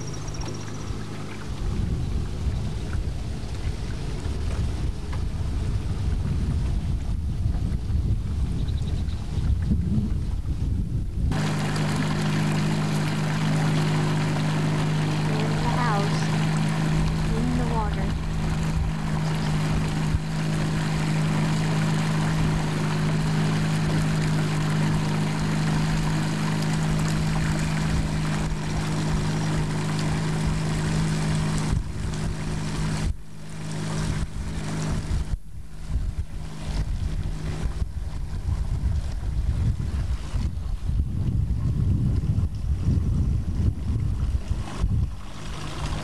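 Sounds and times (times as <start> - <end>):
motorboat engine running: 0.0 - 46.0
wind buffeting microphone: 0.0 - 46.0.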